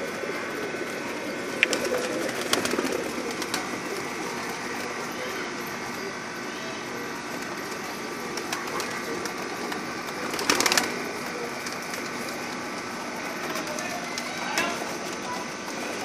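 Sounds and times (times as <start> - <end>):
pigeons: 0.0 - 16.0
steady background hiss: 0.0 - 16.0.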